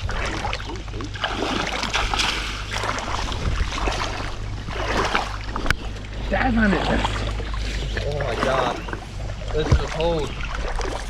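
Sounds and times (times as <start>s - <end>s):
creek water flowing: 0.0s - 11.0s
wind buffeting microphone: 0.0s - 11.0s.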